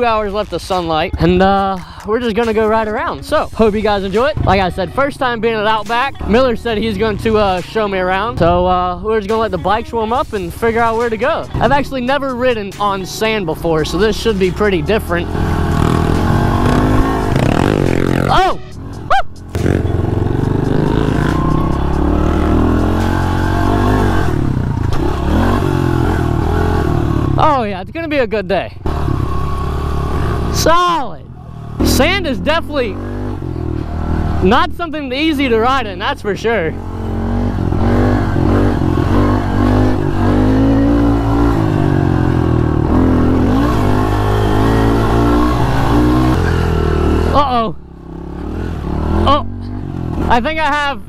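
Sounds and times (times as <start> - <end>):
motorbike engine running: 0.0 - 28.1, 28.8 - 50.9.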